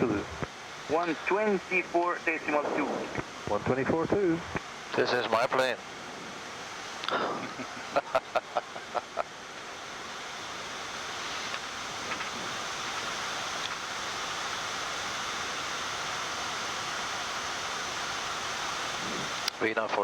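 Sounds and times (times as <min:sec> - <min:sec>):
rushing air noise in cockpit: 0:00.0 - 0:19.8.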